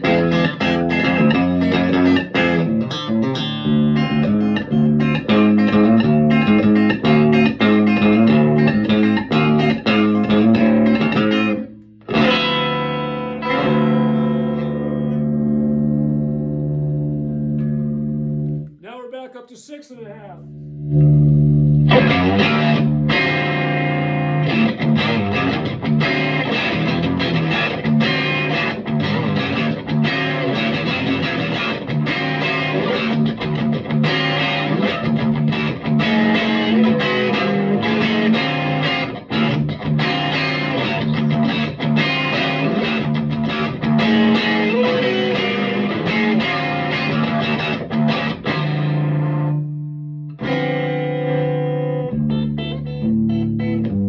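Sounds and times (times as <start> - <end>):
overdriven electric guitar: 0.0 - 18.8, 20.6 - 54.0.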